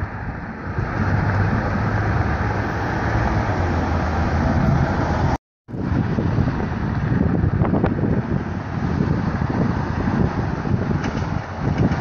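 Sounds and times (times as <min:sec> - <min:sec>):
vehicles rumbling: 0:00.0 - 0:12.0
wind on microphone: 0:00.0 - 0:12.0.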